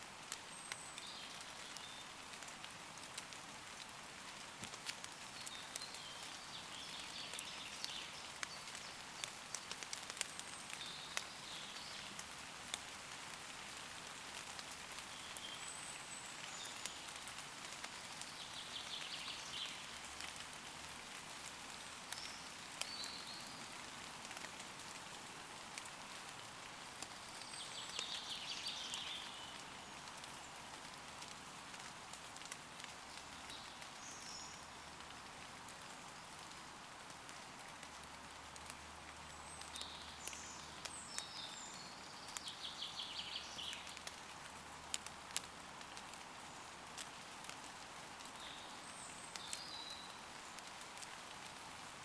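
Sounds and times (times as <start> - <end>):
light rain on leaves: 0.0 - 52.0
raindrops ticking: 0.1 - 52.0.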